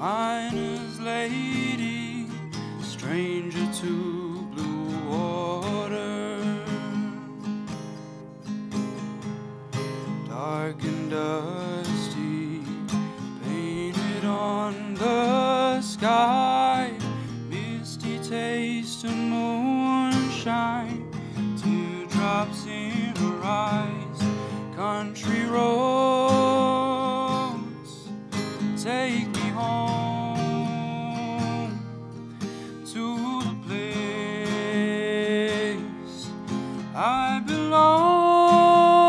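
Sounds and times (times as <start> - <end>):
man singing: 0.0 - 7.4, 10.1 - 31.9, 32.5 - 39.0
acoustic guitar strumming: 0.0 - 39.0.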